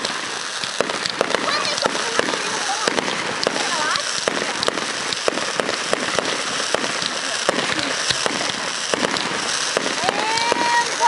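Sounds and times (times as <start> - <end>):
fireworks crackle: 0.0 - 11.0
fireworks pops and bangs: 0.0 - 11.0.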